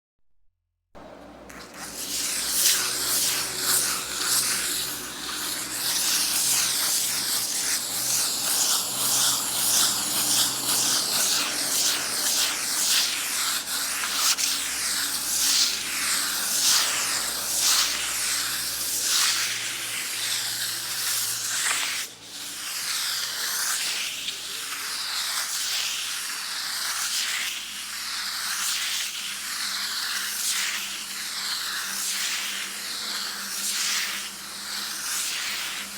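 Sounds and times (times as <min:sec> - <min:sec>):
sandpaper scratching a wall: 0:01.4 - 0:35.9.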